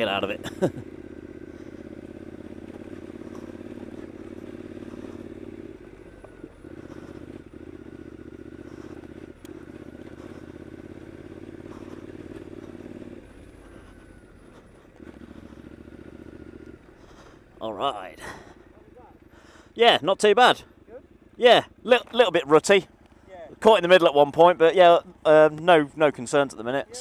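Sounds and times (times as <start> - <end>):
motorcycle engine under throttle: 0.0 - 27.0.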